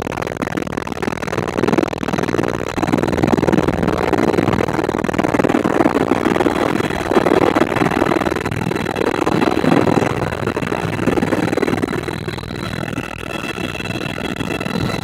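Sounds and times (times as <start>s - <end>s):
helicopter engine and rotor: 1.0s - 15.0s.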